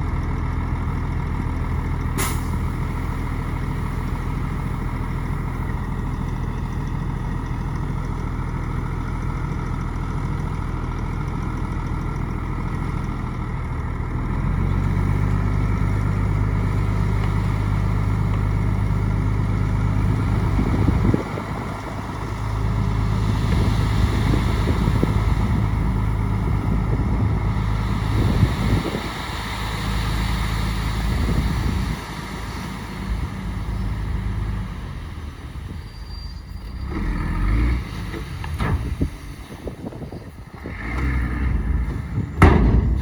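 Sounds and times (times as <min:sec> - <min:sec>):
bulldozer diesel engine: 0:00.0 - 0:43.0.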